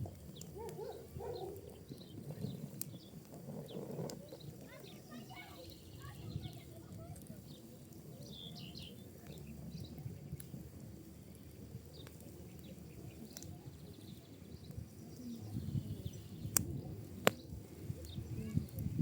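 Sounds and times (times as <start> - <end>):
fire crackling pops: 0.0 - 19.0
fire rumbling: 0.0 - 19.0.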